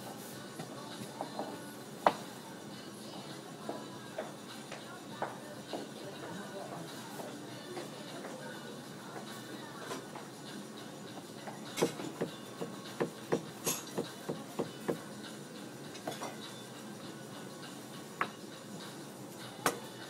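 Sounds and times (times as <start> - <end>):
background hubbub: 2.4 - 20.0.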